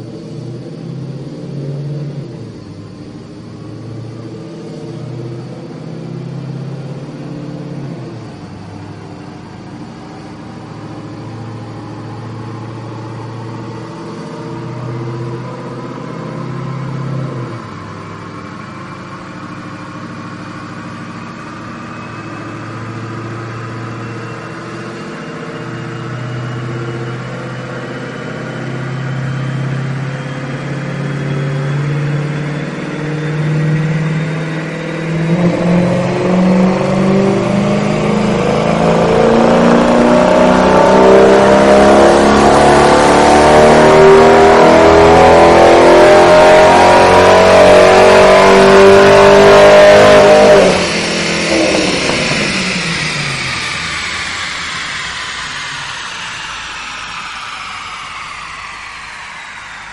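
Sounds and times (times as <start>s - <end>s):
car engine on dyno: 0.0s - 59.9s.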